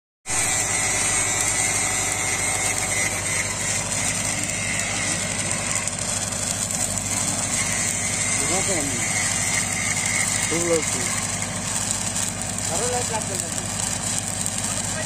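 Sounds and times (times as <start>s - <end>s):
welding arc crackling: 0.3s - 15.0s.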